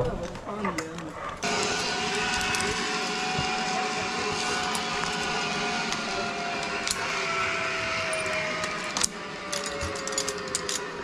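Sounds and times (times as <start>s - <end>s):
zipline pulleys whirring on cable: 1.4s - 11.0s.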